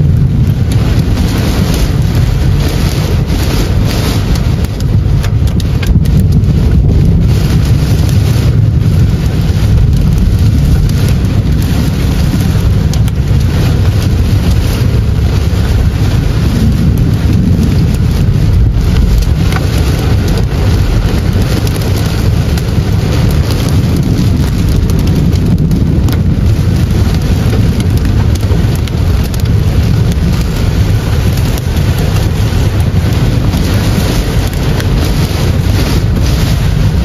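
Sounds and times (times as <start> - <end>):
heavy rain on car windshield: 0.0 - 37.0
low rumble of car and road: 0.0 - 37.0.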